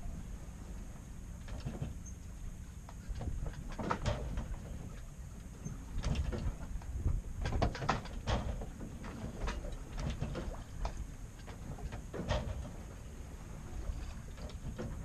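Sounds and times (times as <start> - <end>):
wind and sea rumble: 0.0 - 15.0
boat fittings creaking and clicking: 1.4 - 13.0, 13.8 - 15.0.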